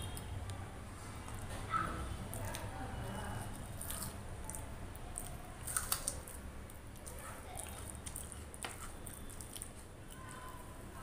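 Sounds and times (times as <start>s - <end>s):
person chewing food: 2.2s - 11.0s.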